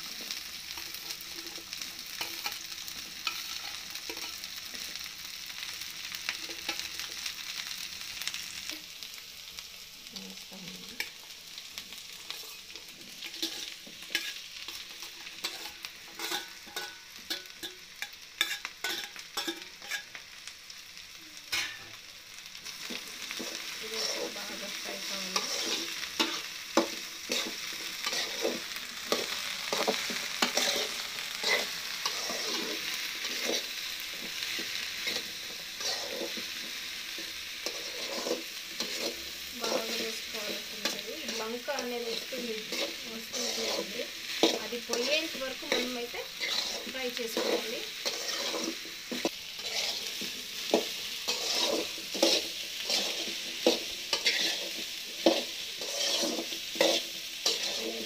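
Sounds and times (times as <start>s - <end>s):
okra sizzling in oil: 0.0s - 58.0s
metal spatula scraping pan: 0.2s - 4.9s, 12.2s - 20.2s, 21.5s - 21.9s, 22.8s - 58.0s.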